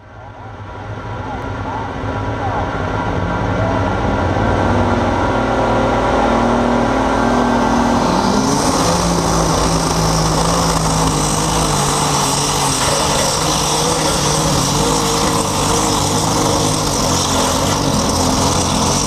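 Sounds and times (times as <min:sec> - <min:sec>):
tractor engine revving: 0:00.6 - 0:19.0.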